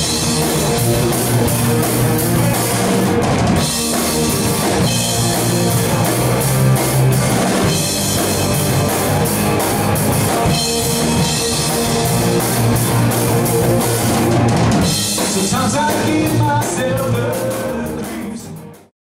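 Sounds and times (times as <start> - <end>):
bass guitar: 0.0 - 18.9
distorted electric guitar: 0.0 - 18.9
drum kit: 0.0 - 18.9.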